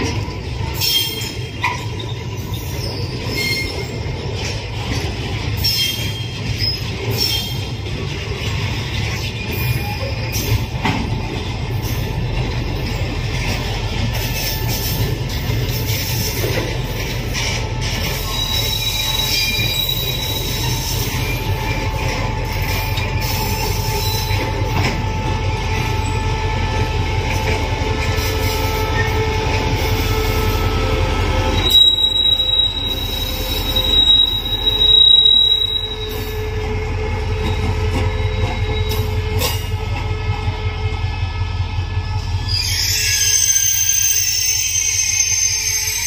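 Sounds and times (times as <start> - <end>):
train wheels squealing: 0.0 - 46.0.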